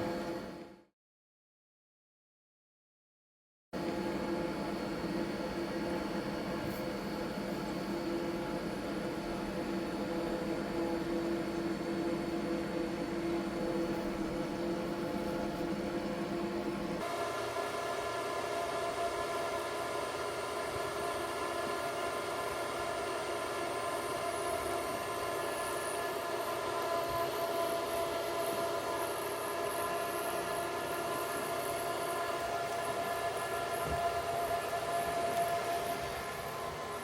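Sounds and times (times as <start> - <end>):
fan motor whining: 3.8 - 37.0.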